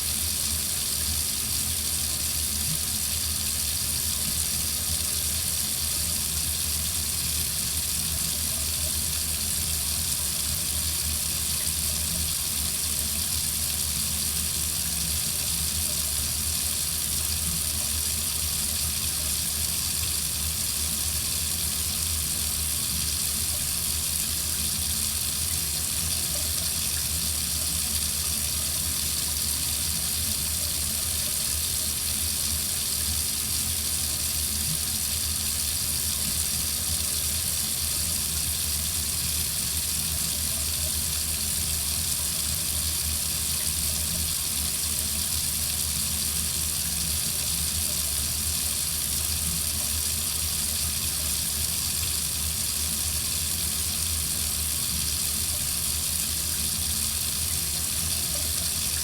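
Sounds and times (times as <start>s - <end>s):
faucet water running into sink: 0.0s - 59.0s.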